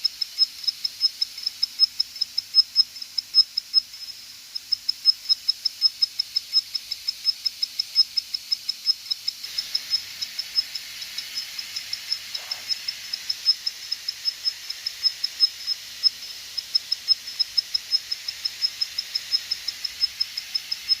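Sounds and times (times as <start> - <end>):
hard drive chirping clicks: 0.0 - 21.0.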